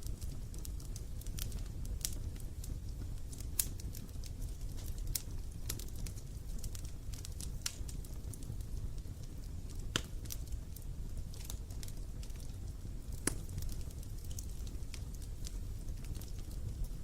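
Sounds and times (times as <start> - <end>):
fire crackles and pops: 0.0 - 17.0
low rush of flames: 0.0 - 17.0.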